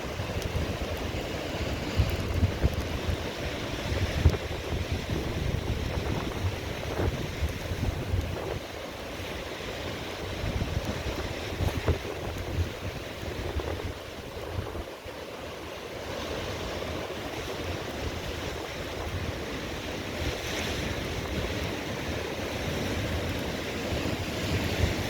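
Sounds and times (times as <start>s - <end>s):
sea waves breaking: 0.0s - 25.0s
wind rumbling on microphone: 0.0s - 25.0s.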